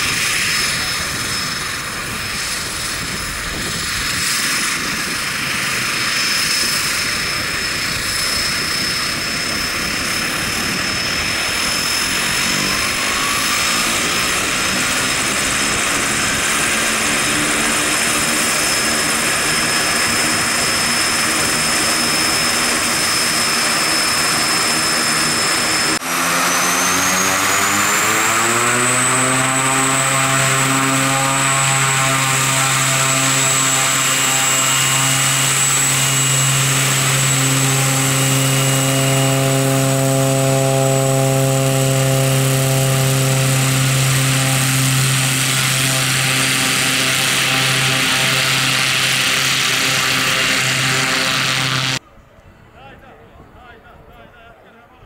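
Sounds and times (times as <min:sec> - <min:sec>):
turboprop engine running: 0:00.0 - 0:52.0.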